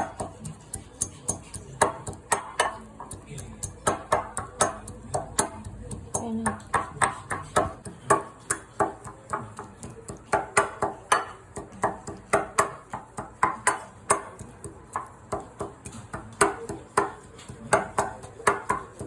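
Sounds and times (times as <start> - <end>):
kitchen utensil knocking: 0.0 - 19.0.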